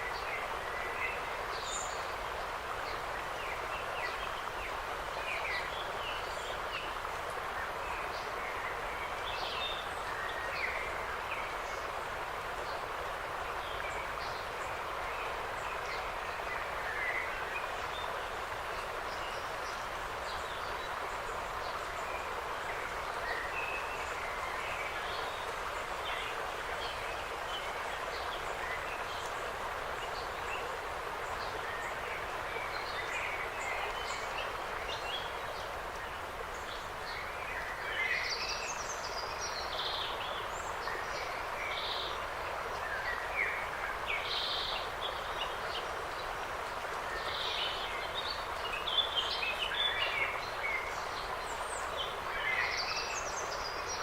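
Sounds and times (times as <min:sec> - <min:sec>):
wind in the trees: 0:00.0 - 0:54.0.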